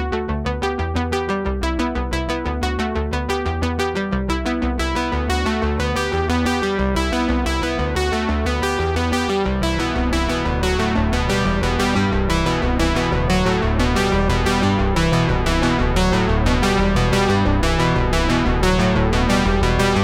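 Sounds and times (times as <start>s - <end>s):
steady bass line: 0.0s - 20.0s
synthesizer and electric piano music: 0.0s - 20.0s.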